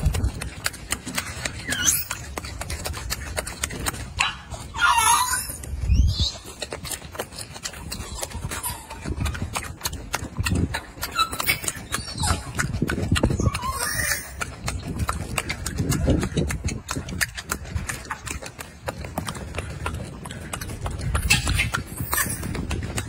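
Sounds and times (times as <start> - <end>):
monkey chewing wetly: 0.0 - 23.0.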